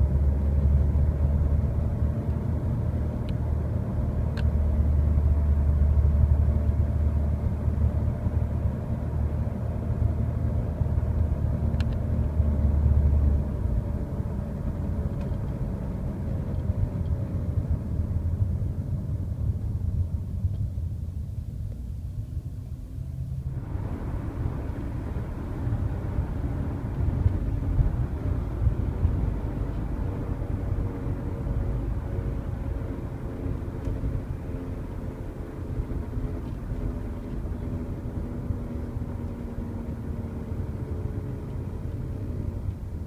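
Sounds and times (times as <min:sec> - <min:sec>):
car engine low drone: 0:00.0 - 0:43.0.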